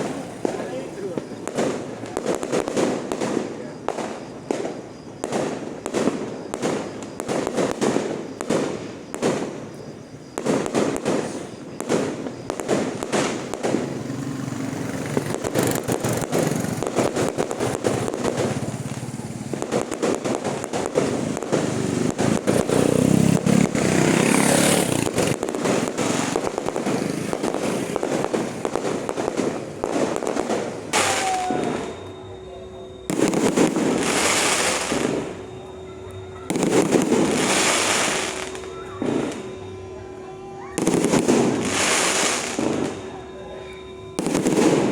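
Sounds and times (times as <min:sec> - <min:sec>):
fireworks bursting and crackling: 0:00.0 - 0:44.9.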